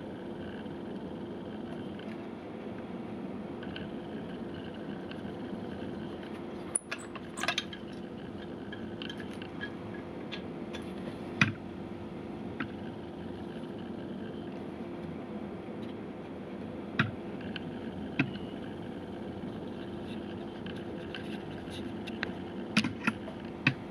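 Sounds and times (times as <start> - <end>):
steady hum: 0.0 - 23.9.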